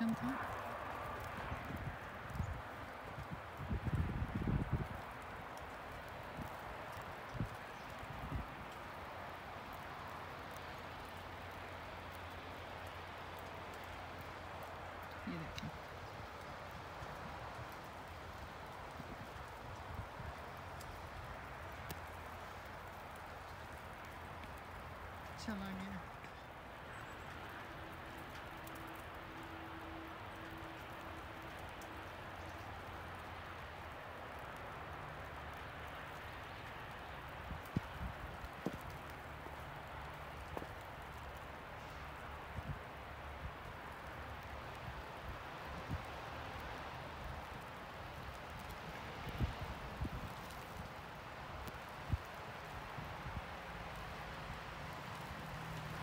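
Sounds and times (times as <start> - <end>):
steady outdoor hiss: 0.0 - 56.0
wet snow pattering: 0.0 - 56.0.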